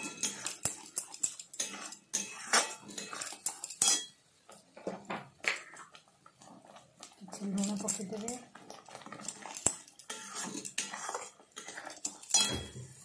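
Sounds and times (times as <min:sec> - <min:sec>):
spoon scraping a pot: 0:00.0 - 0:04.8, 0:05.4 - 0:13.0.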